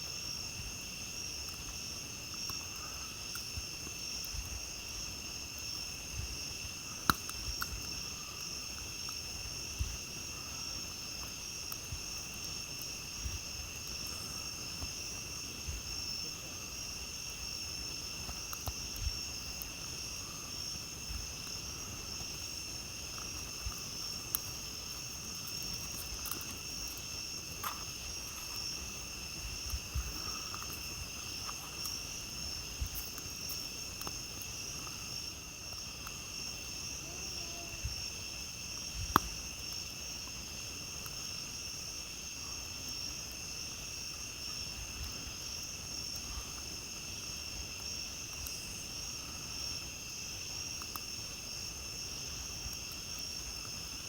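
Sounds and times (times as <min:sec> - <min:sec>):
campfire pops and crackles: 0:00.0 - 0:54.0
night insects trilling: 0:00.0 - 0:54.0.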